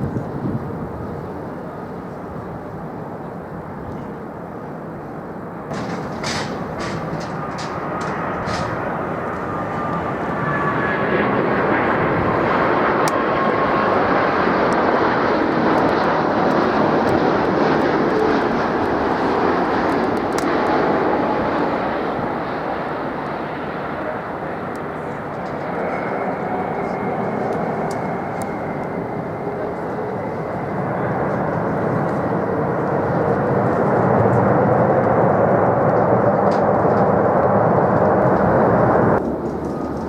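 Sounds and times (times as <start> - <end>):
jet airliner flying past: 0.0 - 40.0.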